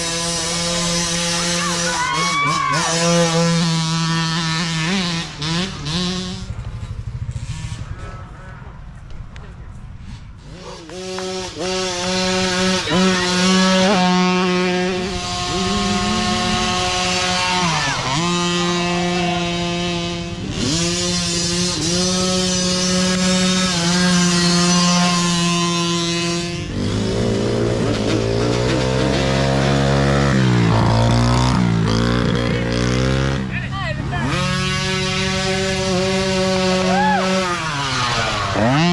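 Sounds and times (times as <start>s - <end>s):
dirt bike engines revving: 0.0s - 38.9s
lower-pitched engine: 0.0s - 38.9s.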